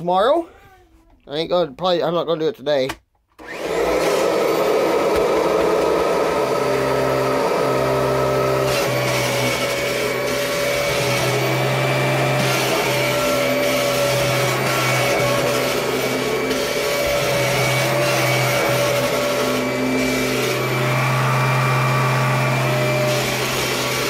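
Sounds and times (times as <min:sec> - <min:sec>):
vacuum cleaner running on carpet: 0:03.4 - 0:24.0.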